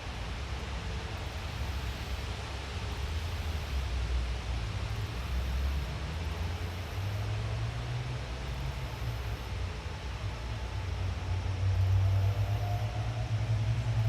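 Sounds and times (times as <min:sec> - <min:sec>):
forest ambience hiss: 0:00.0 - 0:14.0.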